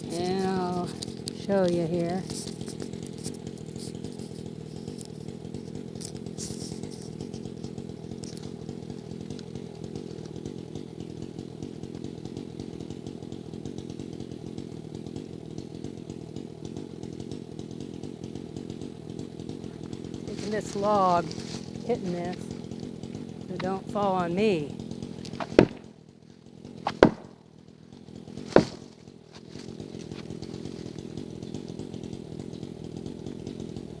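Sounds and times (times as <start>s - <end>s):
chainsaw running: 0.0s - 34.0s.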